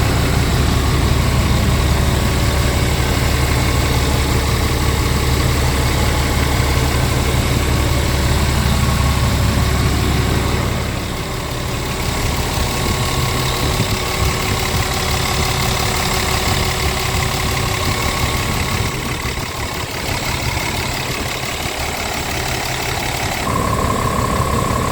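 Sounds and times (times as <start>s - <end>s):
truck diesel engine idling: 0.0s - 24.9s.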